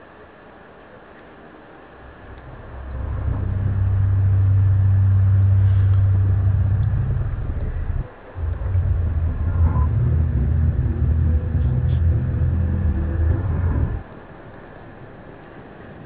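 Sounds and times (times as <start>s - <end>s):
deep droning hum: 1.9s - 16.0s.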